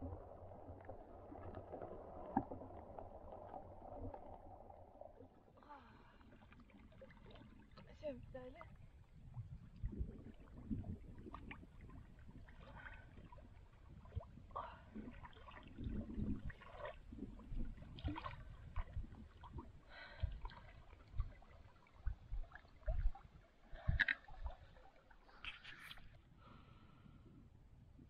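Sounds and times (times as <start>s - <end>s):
water sloshing and splashing: 0.0s - 26.2s.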